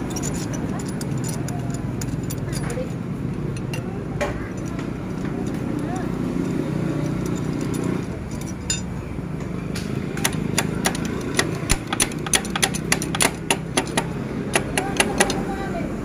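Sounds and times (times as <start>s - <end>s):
metallic clicks and clinks: 0.0s - 9.1s, 10.0s - 15.5s.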